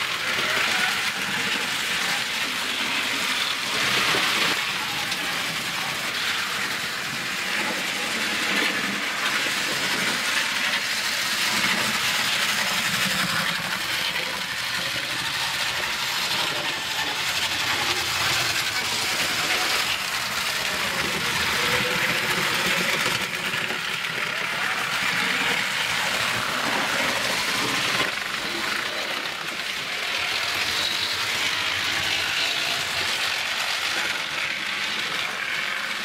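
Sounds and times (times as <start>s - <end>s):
model trains rolling on track: 0.0s - 36.0s.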